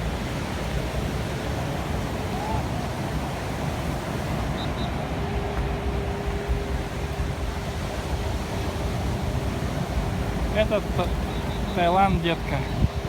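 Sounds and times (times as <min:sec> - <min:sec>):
sea washing: 0:00.0 - 0:13.0
wind on microphone: 0:00.0 - 0:13.0.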